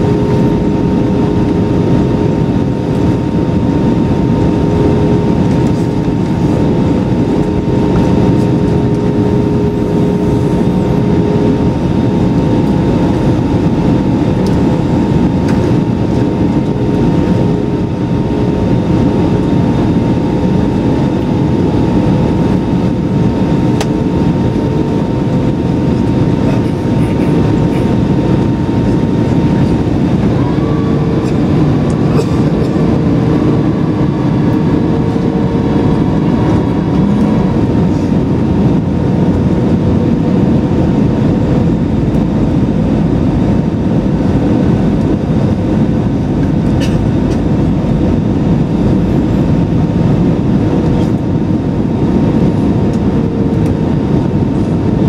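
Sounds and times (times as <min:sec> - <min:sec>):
aircraft cabin engine rumble: 0:00.0 - 0:55.0
steady tonal hum: 0:00.0 - 0:55.0.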